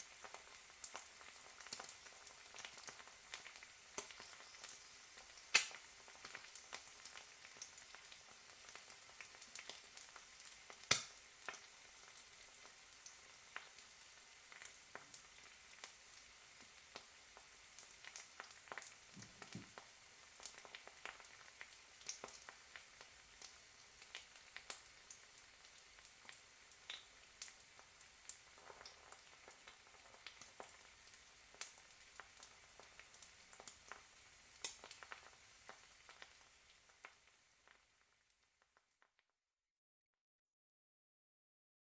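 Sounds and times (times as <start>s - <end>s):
egg sizzling in a pan: 0.0s - 39.3s
crackles and pops: 0.0s - 39.4s.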